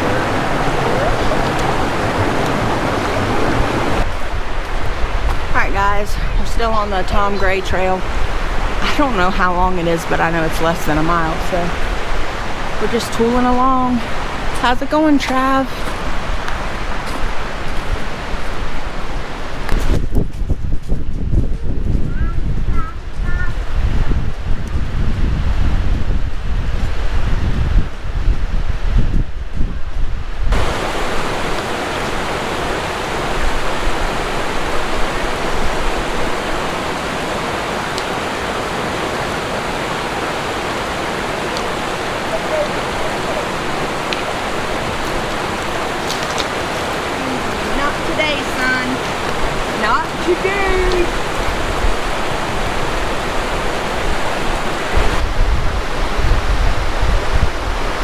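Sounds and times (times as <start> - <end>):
water rushing: 0.0 - 20.2, 30.3 - 58.0
wind buffeting microphone: 0.0 - 58.0.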